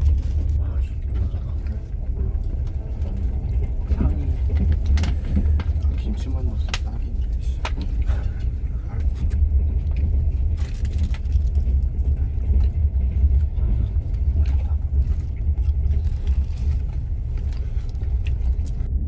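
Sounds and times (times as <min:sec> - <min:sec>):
train rumbling inside carriage: 0:00.0 - 0:19.0
small clicks and rattles: 0:01.1 - 0:18.9.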